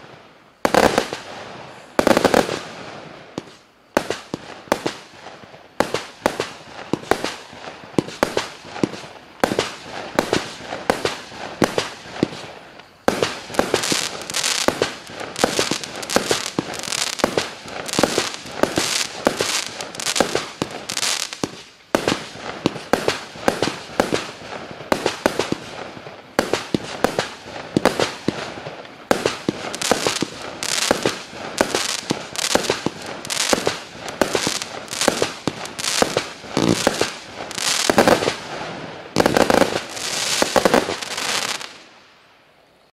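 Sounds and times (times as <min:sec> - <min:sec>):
fireworks battery firing: 0:00.6 - 0:05.2, 0:05.8 - 0:41.8.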